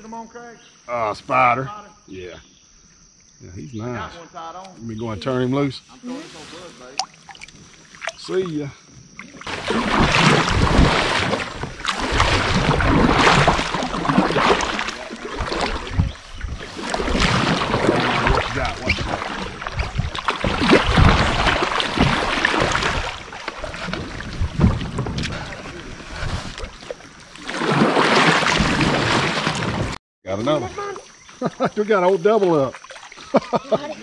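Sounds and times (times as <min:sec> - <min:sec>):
water splashing around kayak: 0:06.0 - 0:30.0, 0:30.6 - 0:34.0.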